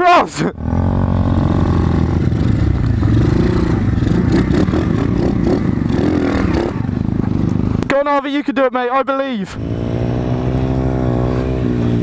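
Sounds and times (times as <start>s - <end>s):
motorcycle engine revving: 0.6s - 7.9s, 9.6s - 12.0s
motorcycle rattling over bumps: 0.6s - 8.2s, 9.6s - 12.0s.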